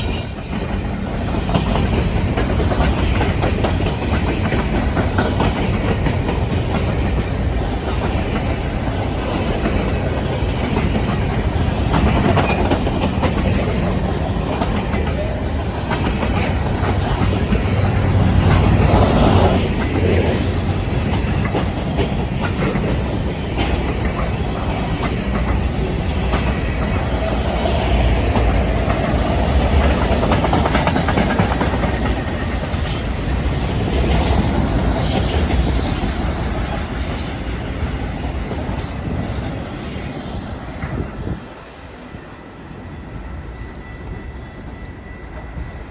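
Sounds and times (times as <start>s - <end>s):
train cars rumbling past: 0.0s - 45.9s.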